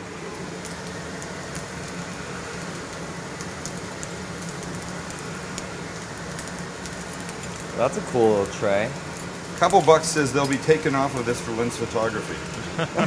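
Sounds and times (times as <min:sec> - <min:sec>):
food sizzling on a griddle: 0:00.0 - 0:13.0
low steady hum: 0:00.0 - 0:13.0
small crackles: 0:00.2 - 0:12.8.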